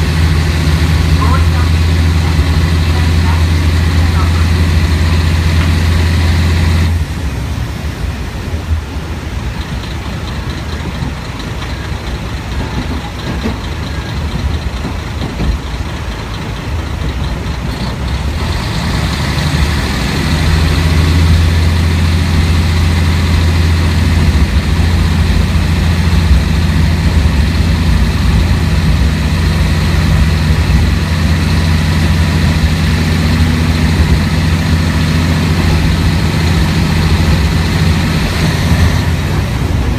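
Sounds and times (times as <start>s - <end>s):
railcar diesel engine hum: 0.0s - 39.9s
train running noise: 0.0s - 39.9s.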